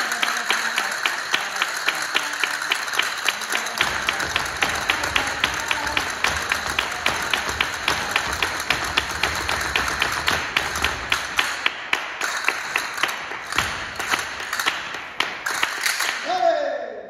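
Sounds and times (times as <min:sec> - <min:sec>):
castanets clicking: 0:00.0 - 0:16.2.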